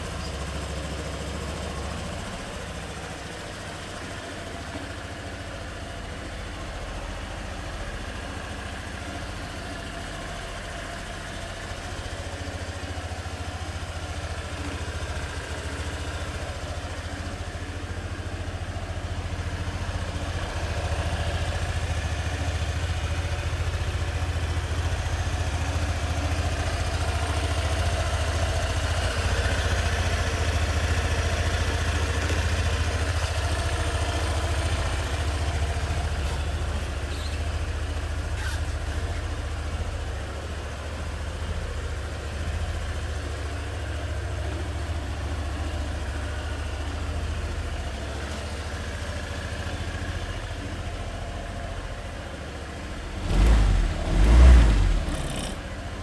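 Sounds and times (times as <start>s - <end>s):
scooter engine idling: 0.0s - 56.0s.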